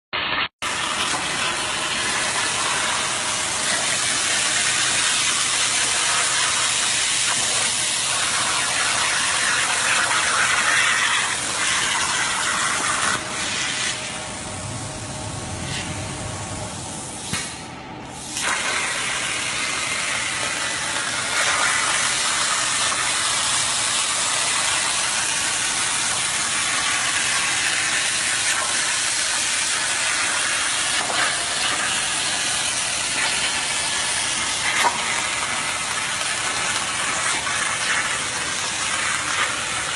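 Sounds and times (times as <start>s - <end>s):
cnc machine spraying hiss: 1.9s - 39.7s.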